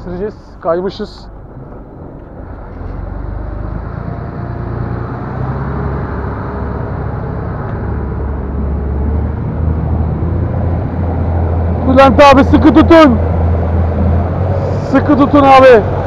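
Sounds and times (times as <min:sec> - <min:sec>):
boat engine drone: 0:00.0 - 0:16.0.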